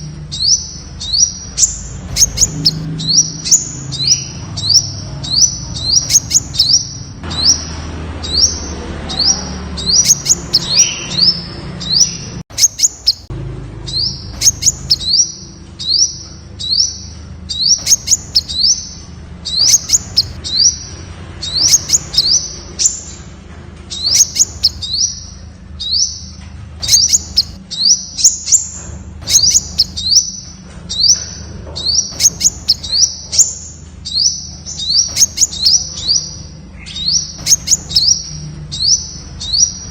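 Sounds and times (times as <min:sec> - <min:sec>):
sunbird calling high sharp notes: 0:00.0 - 0:23.2, 0:23.9 - 0:31.3, 0:31.9 - 0:39.9.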